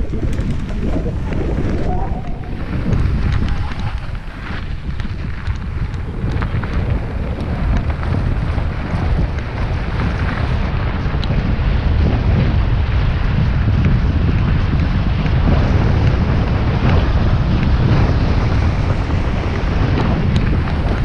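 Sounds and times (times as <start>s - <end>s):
tyres rumbling on dirt: 0.0s - 21.0s
wind buffeting microphone: 0.0s - 21.0s.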